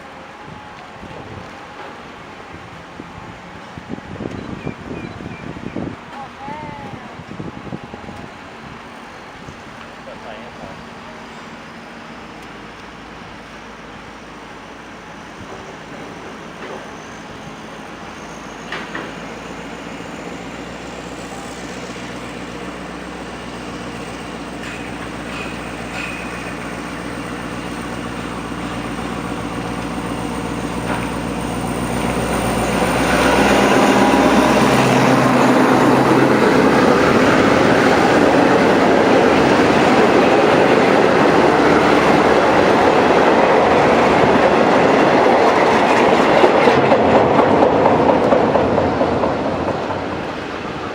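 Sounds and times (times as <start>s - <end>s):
diesel locomotive engine: 0.0s - 50.9s.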